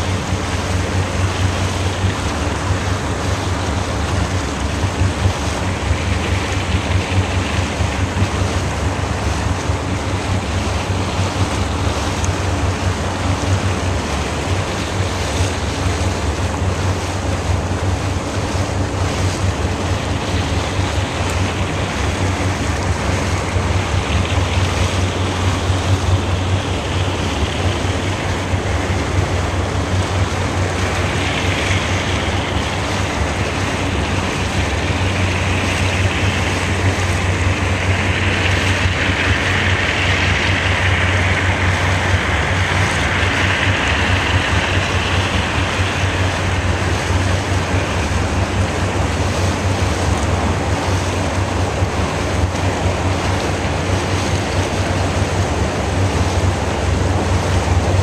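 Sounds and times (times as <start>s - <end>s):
boat engine drone: 0.0s - 58.0s
water rushing along hull: 0.0s - 58.0s.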